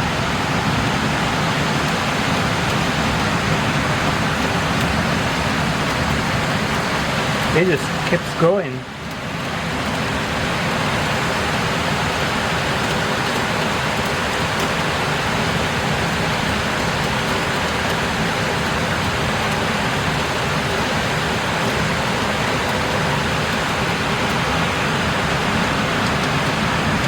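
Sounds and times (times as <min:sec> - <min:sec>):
rain pouring down: 0:00.0 - 0:27.0.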